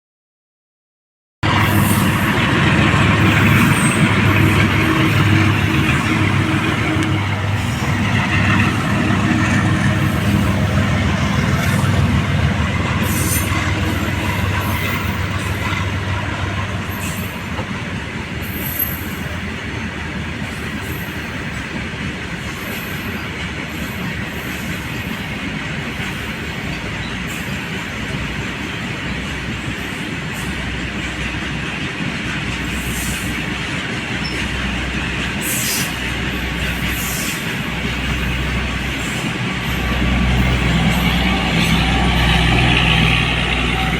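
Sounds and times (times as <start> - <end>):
locomotive pitched hum: 1.4 - 43.9
wagons rumbling on rails: 1.4 - 43.9.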